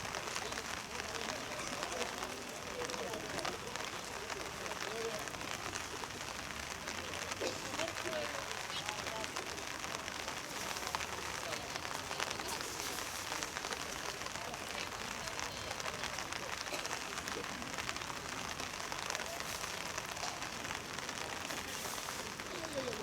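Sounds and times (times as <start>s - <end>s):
faint distant voices: 0.0s - 23.0s
steady patter of rain: 0.0s - 23.0s.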